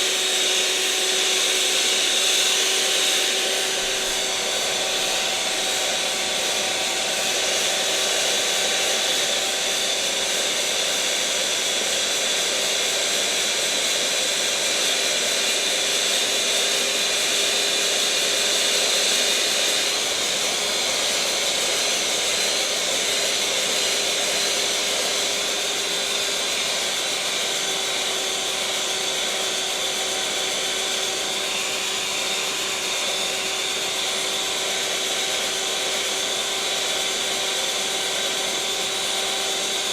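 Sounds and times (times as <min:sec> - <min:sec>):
electric mixer whirring: 0:00.0 - 0:39.9.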